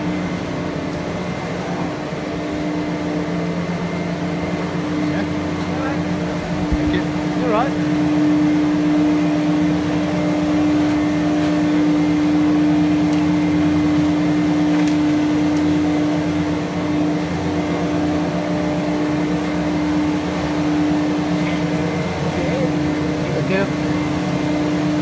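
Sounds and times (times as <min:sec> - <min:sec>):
chairlift machinery humming: 0:00.0 - 0:25.0.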